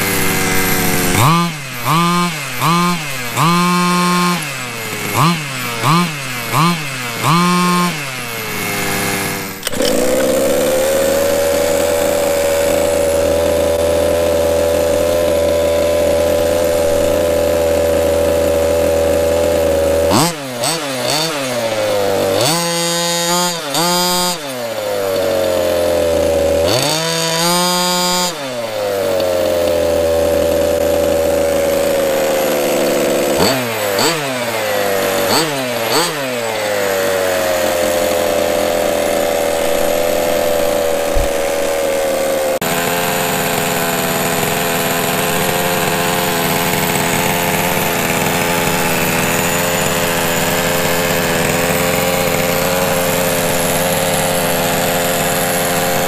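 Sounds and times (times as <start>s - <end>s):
small two-stroke engine revving: 0.0s - 56.0s.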